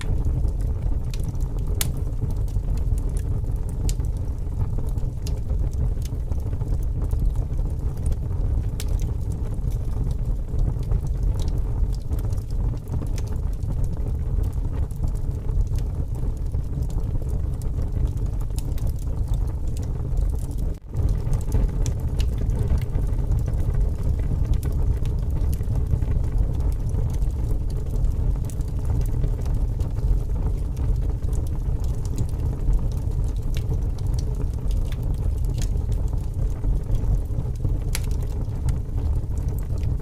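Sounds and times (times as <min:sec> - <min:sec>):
strong wind rumbling: 0:00.0 - 0:40.0
wood fire crackling: 0:00.0 - 0:40.0.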